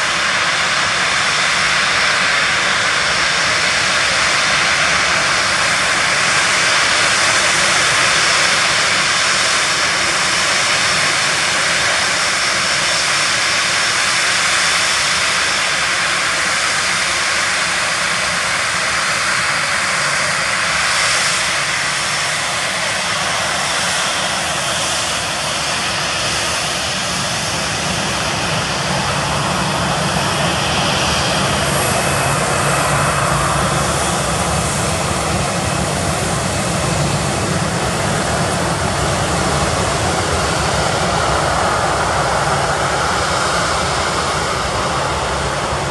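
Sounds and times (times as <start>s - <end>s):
jet engine whine: 0.0s - 45.9s.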